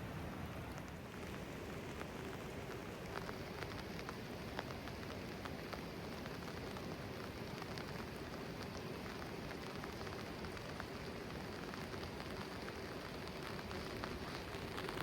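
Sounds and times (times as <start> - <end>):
steady rain falling: 0.0 - 15.0
raindrops ticking on surfaces: 0.1 - 15.0.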